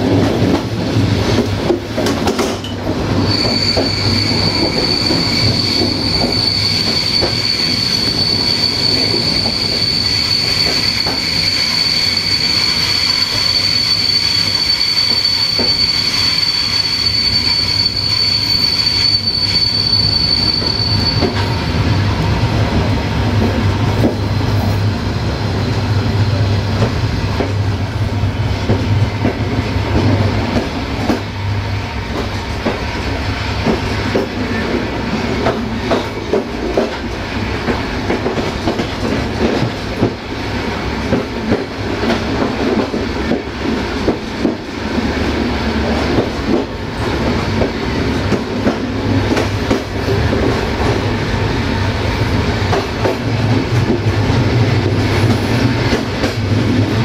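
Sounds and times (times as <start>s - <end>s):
train rumbling: 0.0s - 57.0s
train wheel squeal: 2.0s - 27.8s, 28.5s - 57.0s.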